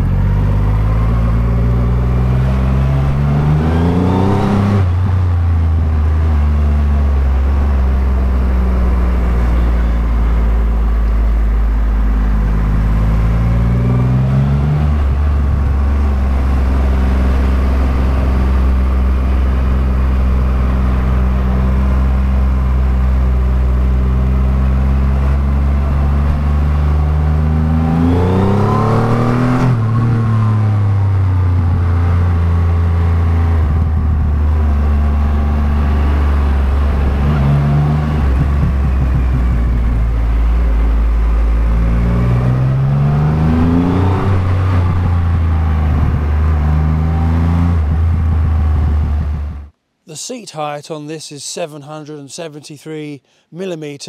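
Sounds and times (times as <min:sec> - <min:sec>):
motorcycle engine accelerating: 0:00.0 - 0:49.8.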